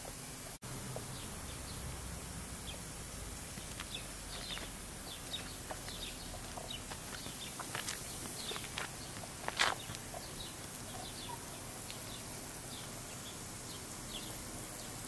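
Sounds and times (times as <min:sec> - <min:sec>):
outdoor background noise: 0:00.0 - 0:15.0
small birds chirping: 0:01.0 - 0:15.0.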